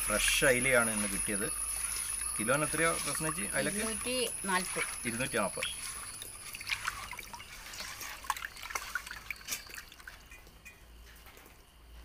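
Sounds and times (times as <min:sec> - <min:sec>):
hands rubbing fish with salt: 0:00.2 - 0:10.3.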